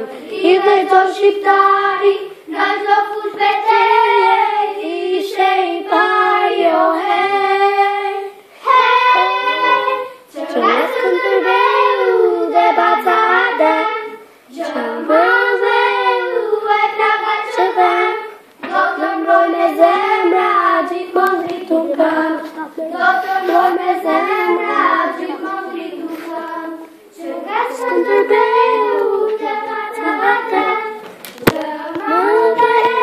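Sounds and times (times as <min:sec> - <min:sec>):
girls singing together: 0:00.0 - 0:33.0.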